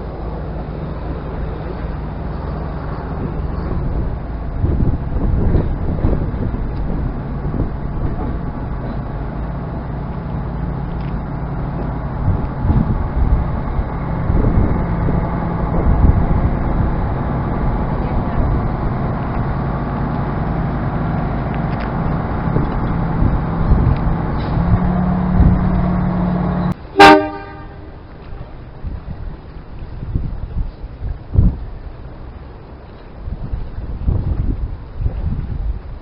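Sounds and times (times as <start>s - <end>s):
diesel railcar engines humming: 0.0s - 36.0s.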